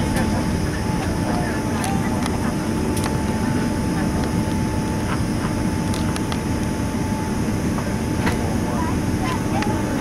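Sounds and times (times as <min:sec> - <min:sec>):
airplane engine rumble in cabin: 0:00.0 - 0:10.0
faint steady whine: 0:00.0 - 0:10.0.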